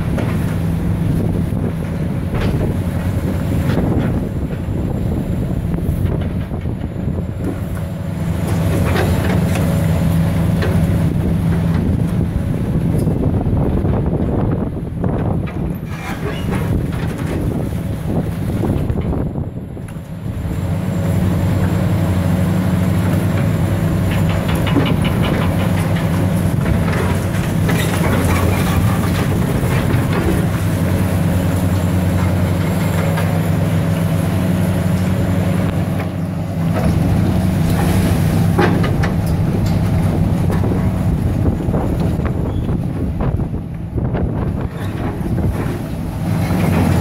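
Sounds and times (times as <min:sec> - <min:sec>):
diesel excavator engines running: 0:00.0 - 0:47.0.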